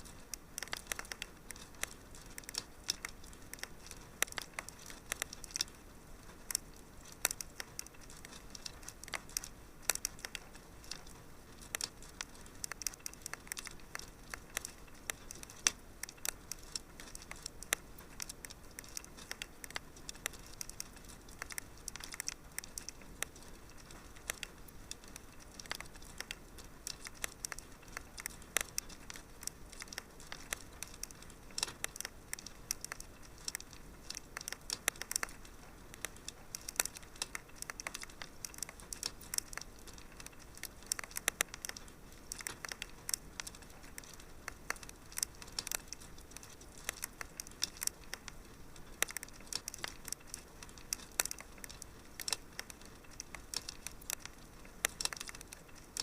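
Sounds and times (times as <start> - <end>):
soft fire hiss: 0.0 - 56.0
wood fire pops and snaps: 0.0 - 56.0.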